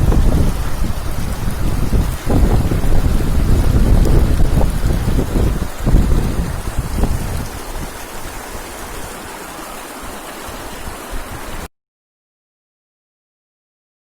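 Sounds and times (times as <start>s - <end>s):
river water rushing: 0.0s - 11.7s
wind buffeting microphone: 0.0s - 11.7s.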